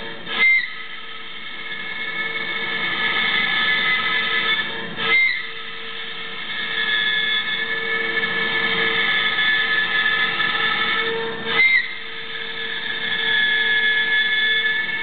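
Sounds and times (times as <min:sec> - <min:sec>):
cutting machine whining: 0:00.0 - 0:15.0.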